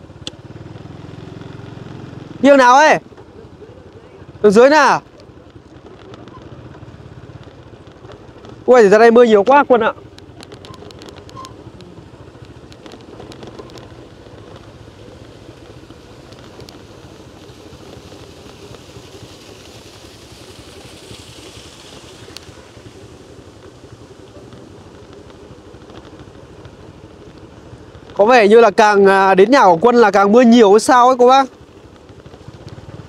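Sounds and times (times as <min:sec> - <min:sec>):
motorcycle engines running: 0:00.0 - 0:33.0.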